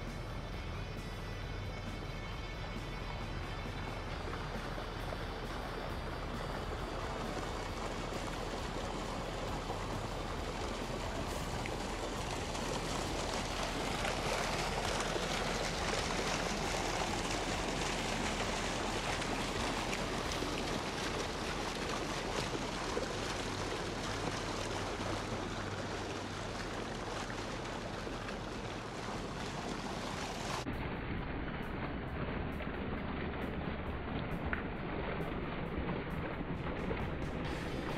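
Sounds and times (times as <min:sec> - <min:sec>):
water gushing into pool: 0:00.0 - 0:37.9.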